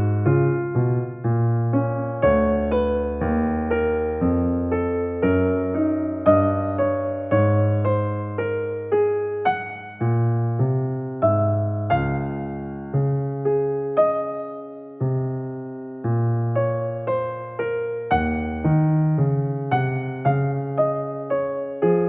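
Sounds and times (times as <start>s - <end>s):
gentle electric piano music: 0.0s - 22.0s.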